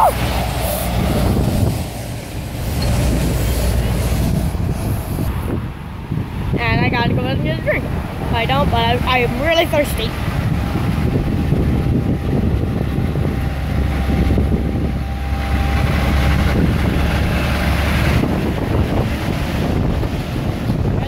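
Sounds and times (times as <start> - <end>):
diesel truck engine driving past: 0.0 - 21.0
wind buffeting microphone: 0.0 - 21.0.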